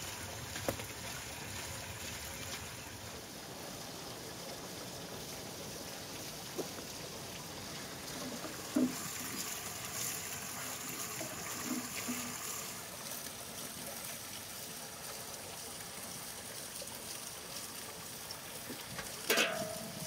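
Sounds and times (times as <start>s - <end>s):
water trickling from waterfall: 0.0s - 20.0s.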